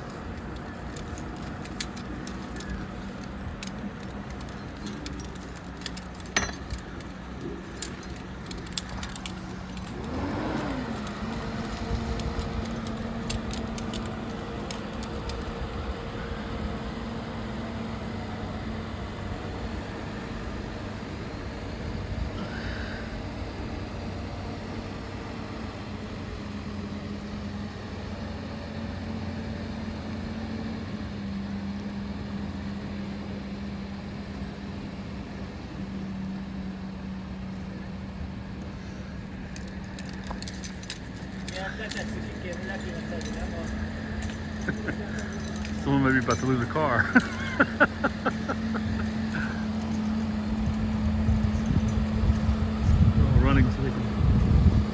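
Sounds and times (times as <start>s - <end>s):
crane engine running: 0.0s - 54.9s.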